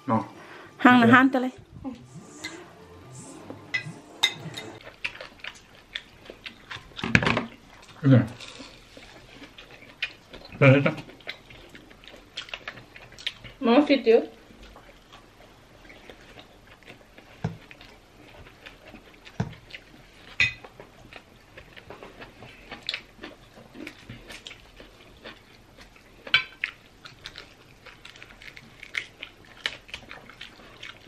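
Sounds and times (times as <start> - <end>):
chewing and eating: 4.4 - 31.0.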